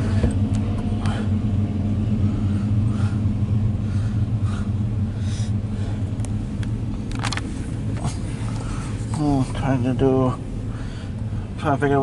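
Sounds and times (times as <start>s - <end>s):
freight train rumbling past: 0.0s - 11.6s.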